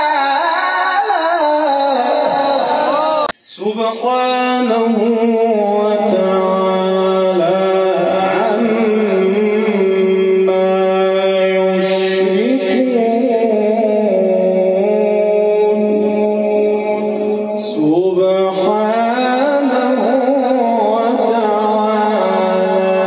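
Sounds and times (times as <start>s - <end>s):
man chanting recitation: 0.0s - 23.0s.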